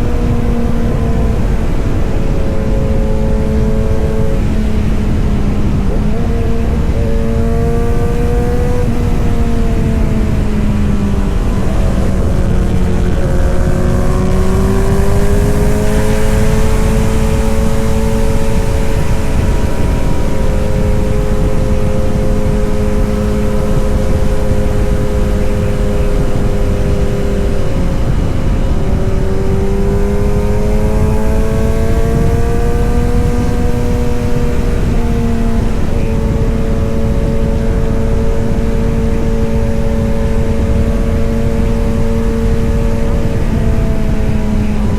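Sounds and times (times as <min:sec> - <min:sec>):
low rush of noise: 0:00.0 - 0:44.9
motorcycle engine and exhaust: 0:00.0 - 0:44.9.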